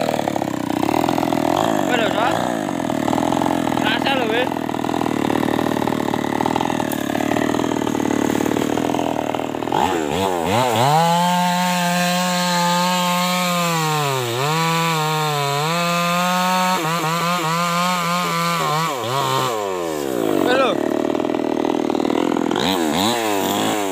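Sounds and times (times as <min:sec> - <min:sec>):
chainsaw cutting log: 0:00.0 - 0:23.9.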